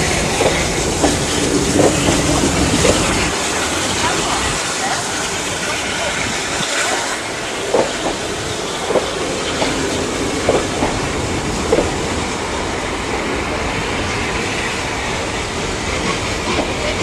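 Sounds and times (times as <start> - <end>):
train wheels clacking over rail joints: 0.0 - 12.6, 15.8 - 17.0
rumble of train running gear: 0.0 - 17.0.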